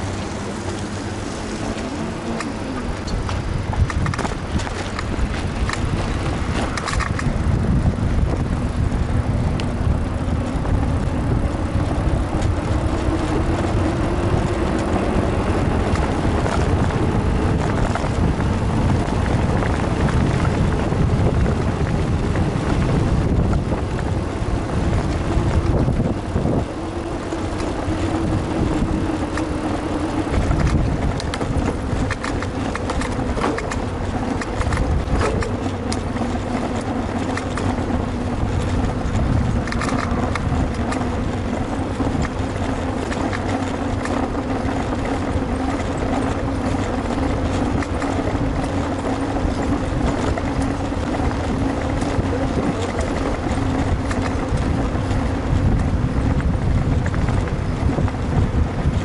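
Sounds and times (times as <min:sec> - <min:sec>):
bicycle tyres on road: 0:00.0 - 0:59.0
wind rumble on microphone: 0:00.0 - 0:59.0.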